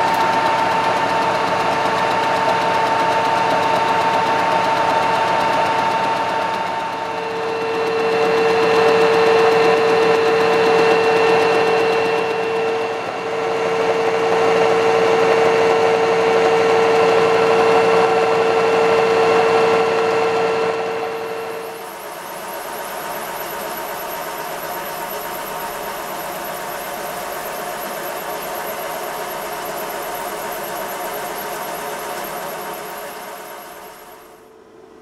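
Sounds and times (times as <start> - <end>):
steady machine whine: 0.0 - 35.0.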